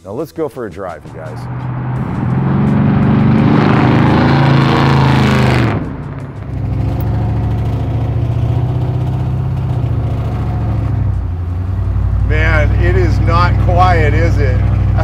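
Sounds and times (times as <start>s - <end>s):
truck engine accelerating: 1.0s - 15.0s.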